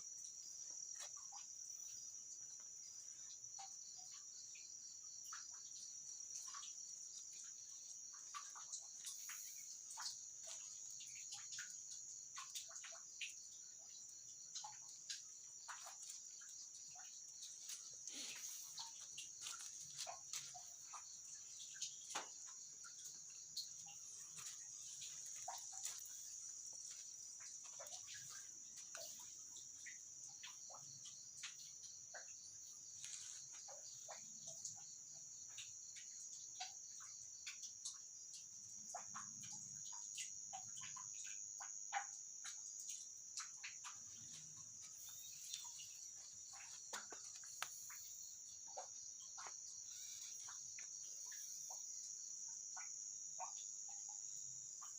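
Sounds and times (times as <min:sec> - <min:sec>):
crickets trilling: 0:00.0 - 0:54.9.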